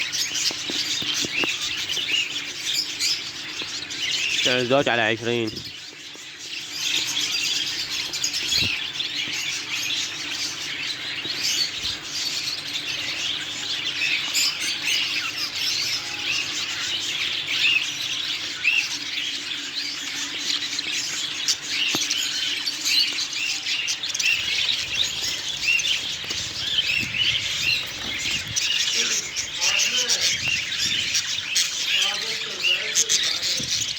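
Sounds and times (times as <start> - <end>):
caged birds chirping: 0.0 - 33.9.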